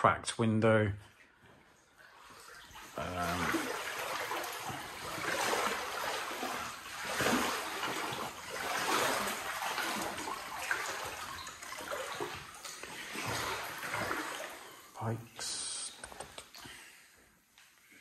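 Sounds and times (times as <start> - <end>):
wading through deep water: 1.6 - 17.2.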